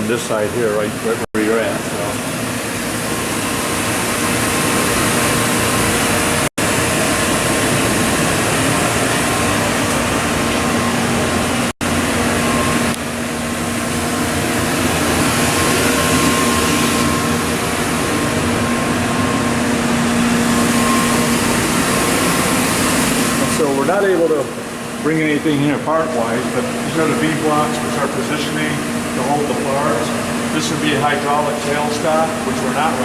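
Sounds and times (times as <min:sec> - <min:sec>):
industrial blower humming: 0:00.0 - 0:33.0.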